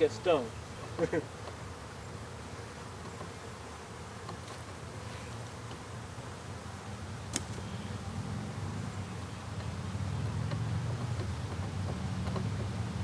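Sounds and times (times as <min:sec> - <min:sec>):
bees buzzing: 0:00.0 - 0:10.4.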